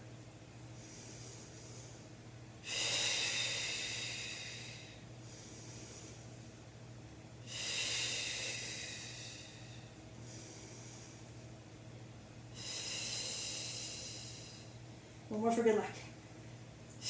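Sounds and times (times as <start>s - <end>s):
quiet breaths: 0.5s - 15.3s.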